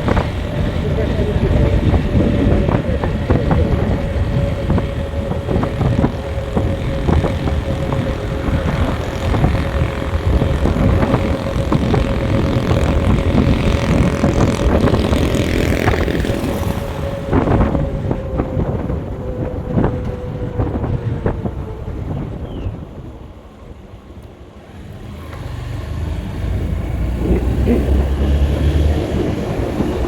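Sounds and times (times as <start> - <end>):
road rumble: 0.0 - 30.0
vehicle engine hum: 0.0 - 30.0.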